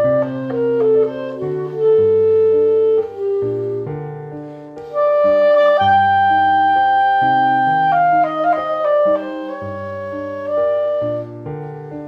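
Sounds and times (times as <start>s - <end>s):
clarinet holding long note: 0.0s - 4.0s, 4.9s - 11.5s
piano chords: 0.0s - 12.0s.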